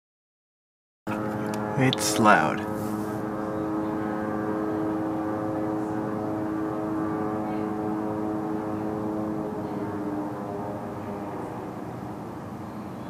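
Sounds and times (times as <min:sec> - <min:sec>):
horn-like hum from the sky: 0:01.1 - 0:13.0.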